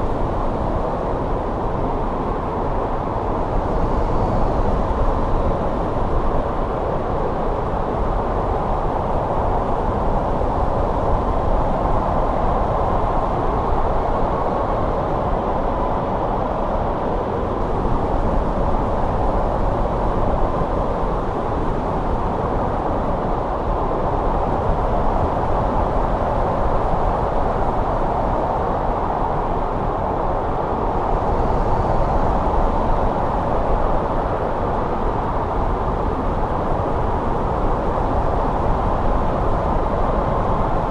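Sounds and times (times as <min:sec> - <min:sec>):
snowstorm wind rushing: 0:00.0 - 0:40.9.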